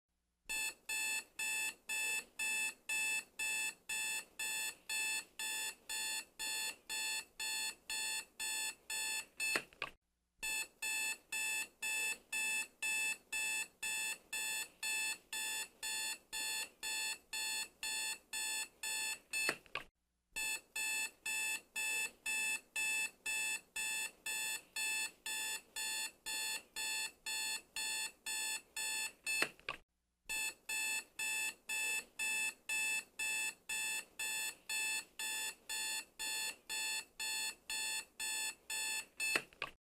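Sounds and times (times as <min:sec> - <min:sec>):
alarm clock beeping: 0:00.6 - 0:09.6, 0:10.5 - 0:19.5, 0:20.4 - 0:29.4, 0:30.4 - 0:39.4.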